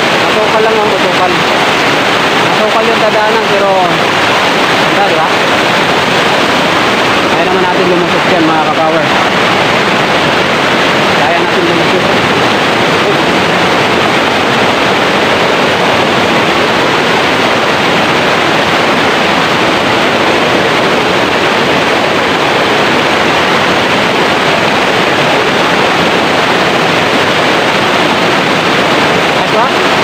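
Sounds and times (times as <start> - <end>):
river rapids rushing over boulders: 0.0 - 30.0.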